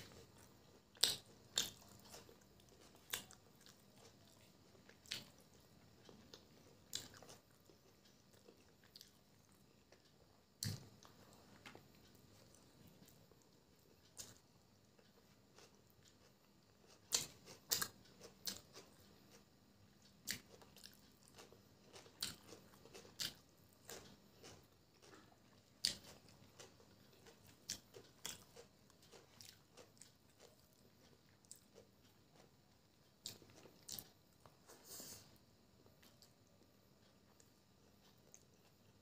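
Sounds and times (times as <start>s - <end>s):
chewing with mouth clicks: 0.0s - 34.6s, 35.9s - 39.0s.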